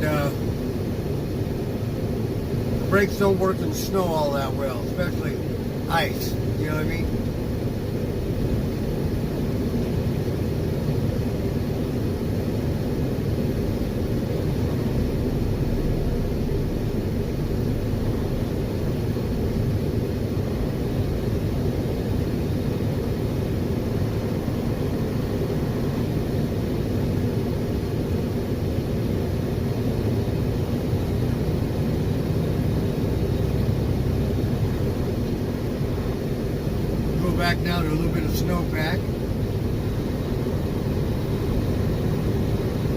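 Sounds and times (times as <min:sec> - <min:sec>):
diesel truck engine drone: 0:00.0 - 0:42.9
road noise: 0:00.0 - 0:42.9.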